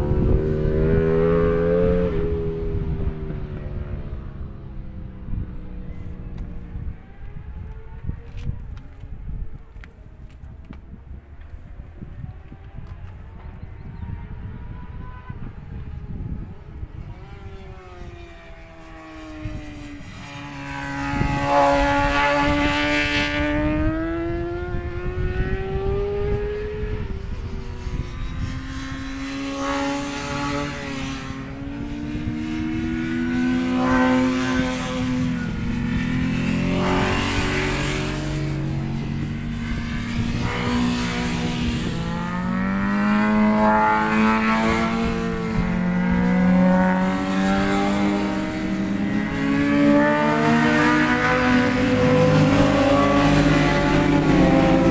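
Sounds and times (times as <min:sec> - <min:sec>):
motorcycle engines revving past: 0:00.0 - 0:54.9
wind buffeting microphone: 0:00.0 - 0:54.9.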